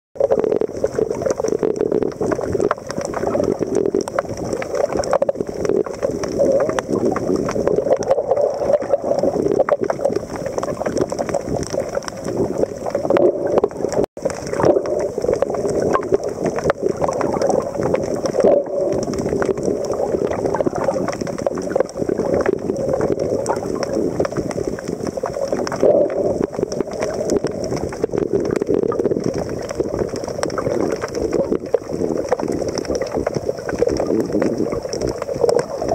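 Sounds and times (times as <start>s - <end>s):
faint underwater clicks: 0.2s - 35.9s
underwater water rush: 0.2s - 35.9s.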